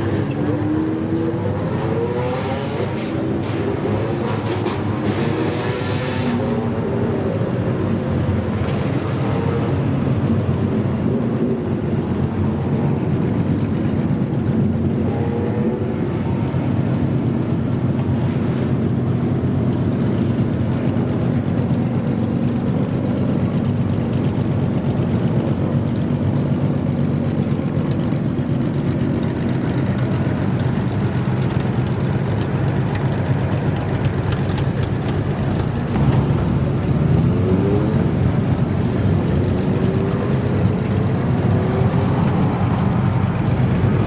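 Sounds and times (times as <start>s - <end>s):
car engine rumbling and revving: 0.0s - 44.0s.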